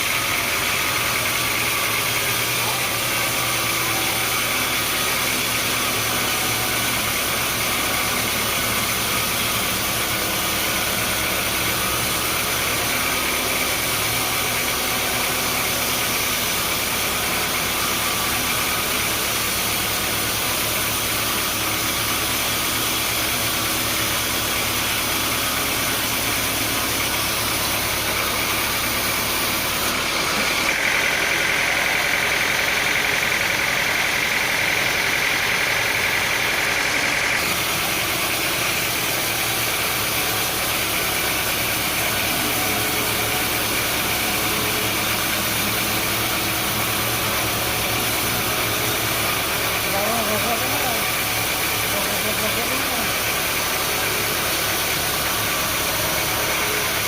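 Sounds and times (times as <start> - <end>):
high machine whine: 0.0 - 57.0
sawmill engine drone: 0.0 - 57.0.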